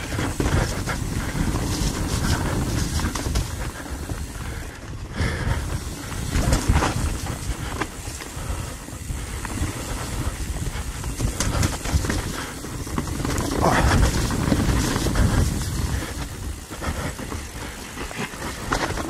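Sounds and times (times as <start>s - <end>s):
bike rattling and knocking: 0.0s - 19.0s
bike tires rumbling over dirt: 0.0s - 19.0s.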